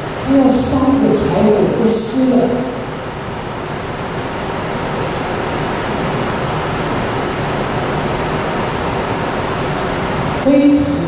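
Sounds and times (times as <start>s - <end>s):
recording hiss: 0.0s - 11.0s.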